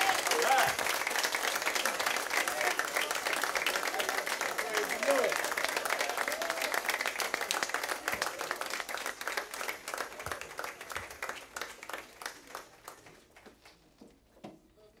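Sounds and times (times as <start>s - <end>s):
people clapping: 0.0s - 14.3s.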